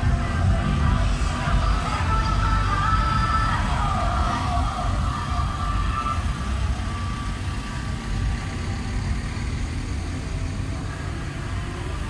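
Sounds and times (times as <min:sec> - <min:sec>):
trucks driving slowly past: 0:00.0 - 0:12.0.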